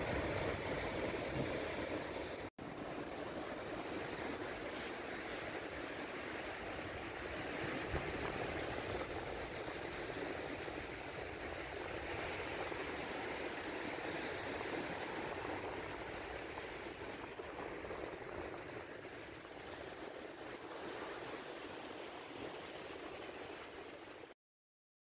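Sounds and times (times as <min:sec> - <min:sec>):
sea surf washing ashore: 0:00.0 - 0:24.3.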